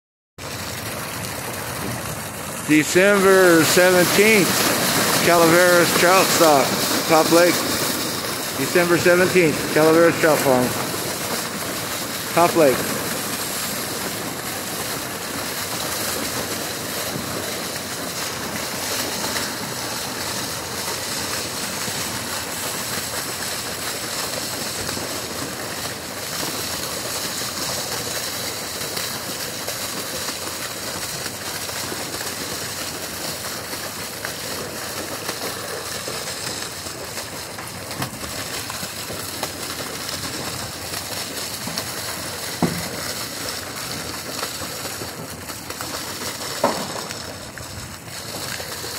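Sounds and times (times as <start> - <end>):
water gushing from pipe: 0.4 - 48.9
water splashing onto lake: 0.4 - 48.9.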